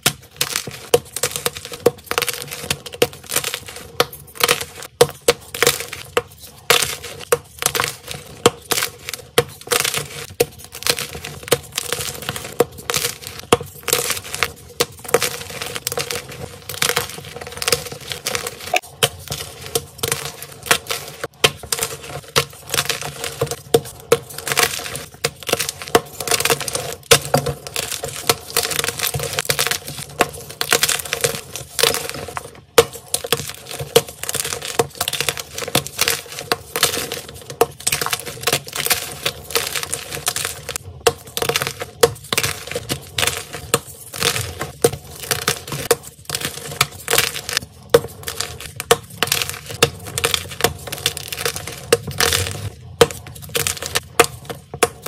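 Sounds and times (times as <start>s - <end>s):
chalk blocks cracking and crunching: 0.0s - 55.0s.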